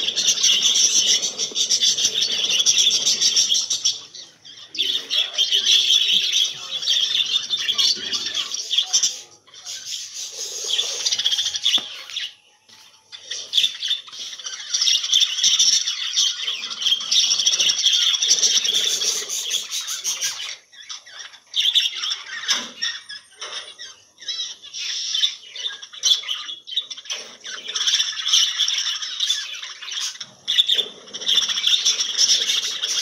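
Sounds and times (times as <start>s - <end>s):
budgerigars chattering: 0.0s - 12.4s, 13.2s - 33.0s.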